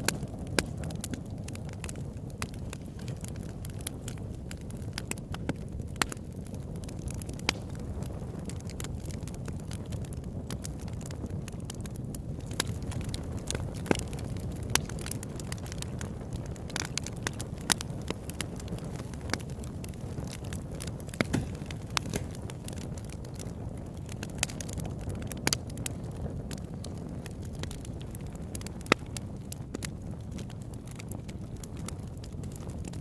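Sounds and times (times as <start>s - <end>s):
campfire flames rumbling: 0.0s - 33.0s
wood crackling and popping: 0.0s - 33.0s.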